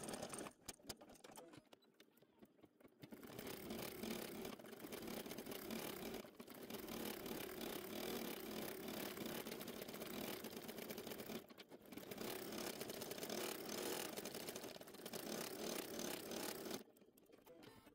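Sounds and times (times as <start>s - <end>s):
embroidery machine needle clatter: 0.0s - 17.9s.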